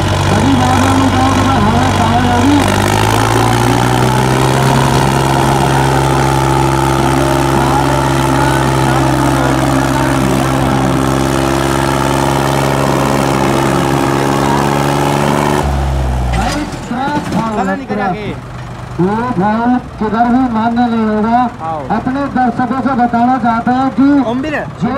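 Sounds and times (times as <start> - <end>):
tractor diesel engines at full throttle: 0.0 - 24.9.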